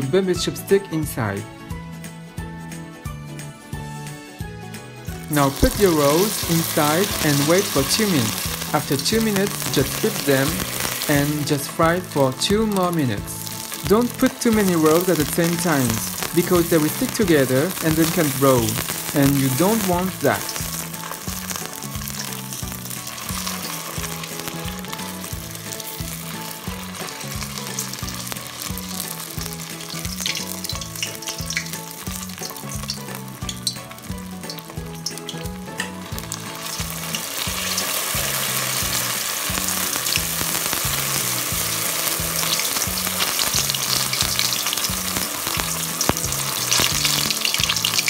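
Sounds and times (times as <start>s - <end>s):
oil popping: 5.2s - 48.0s
spring rolls sizzling in hot oil: 5.3s - 48.0s.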